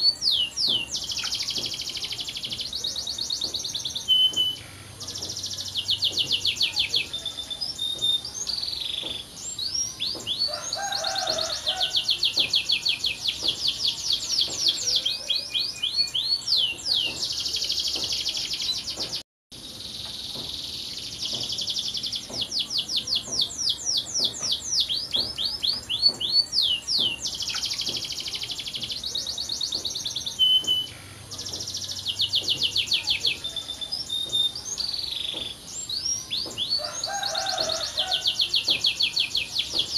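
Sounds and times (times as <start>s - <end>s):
canary singing: 0.0s - 19.1s, 20.2s - 39.9s.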